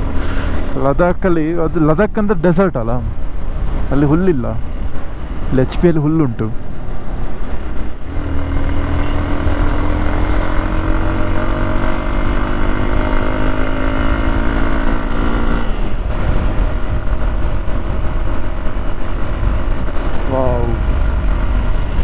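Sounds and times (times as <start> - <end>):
wind rumble on microphone: 3.0 - 13.6, 14.2 - 22.0.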